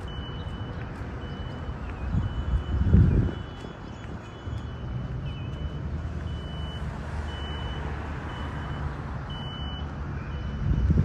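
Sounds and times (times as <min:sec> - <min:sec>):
reversing alarm beeps: 0:00.0 - 0:11.0.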